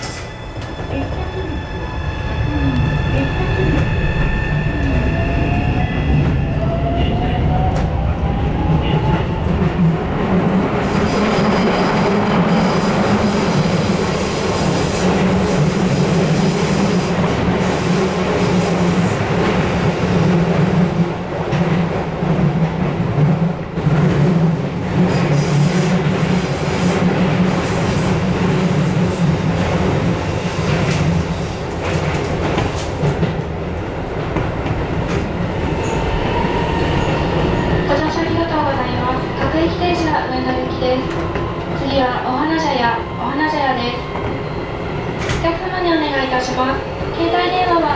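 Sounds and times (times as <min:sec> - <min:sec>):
train wheel and rail noise: 0:00.0 - 0:47.9.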